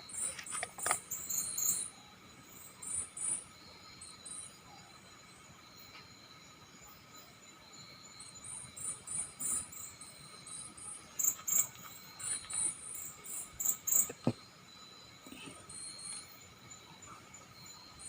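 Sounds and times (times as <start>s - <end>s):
crickets chirping: 0.0s - 18.0s
steady insect hum: 0.0s - 18.0s.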